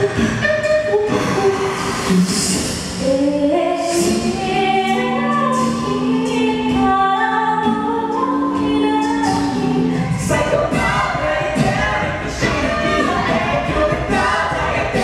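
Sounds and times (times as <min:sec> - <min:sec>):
a cappella group singing: 0:02.3 - 0:15.0.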